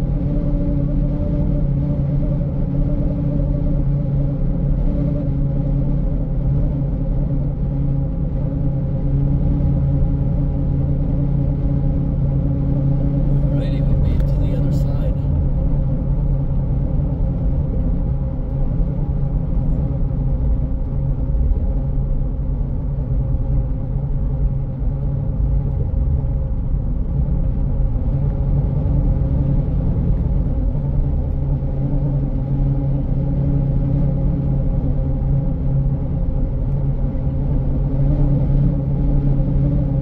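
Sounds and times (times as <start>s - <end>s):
car driving heard from inside: 0.0s - 40.0s.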